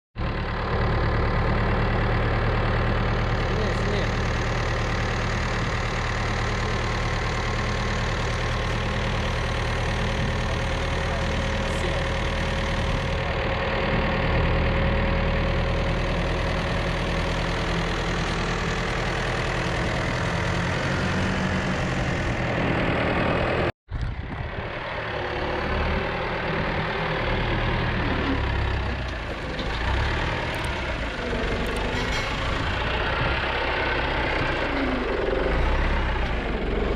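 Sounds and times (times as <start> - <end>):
tractor engine running: 0.2 - 36.9.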